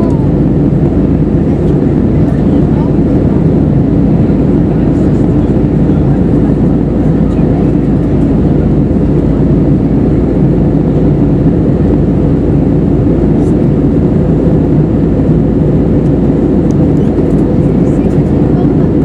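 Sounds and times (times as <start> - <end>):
airflow rush in aircraft cabin: 0.0 - 19.0
jet engines droning: 0.0 - 19.0.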